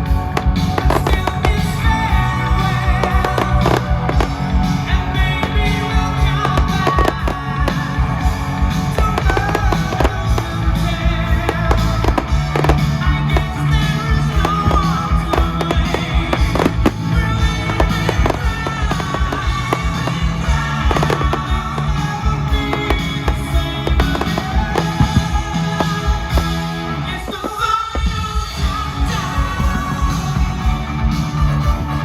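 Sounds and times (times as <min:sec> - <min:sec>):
fireworks bangs and crackles: 0:00.0 - 0:31.8
loud rock music: 0:00.0 - 0:32.0.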